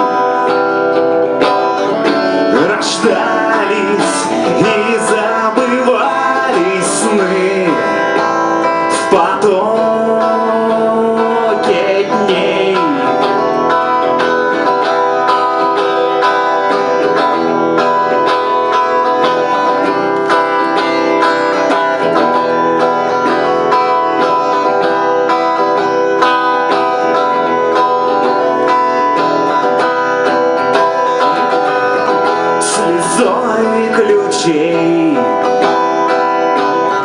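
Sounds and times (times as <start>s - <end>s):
guitar plucked notes: 0.0s - 37.0s.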